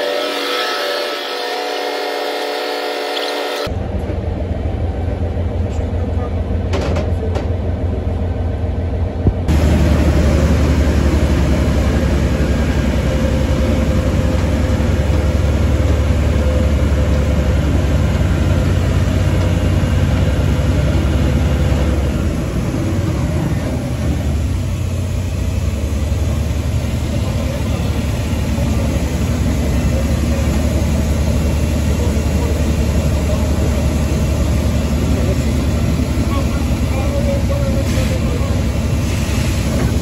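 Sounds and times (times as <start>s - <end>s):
crane diesel engine humming: 0.0s - 40.0s.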